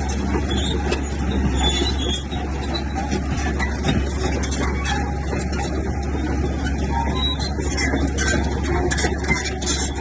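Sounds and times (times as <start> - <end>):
bulldozer diesel engine running: 0.0 - 10.0.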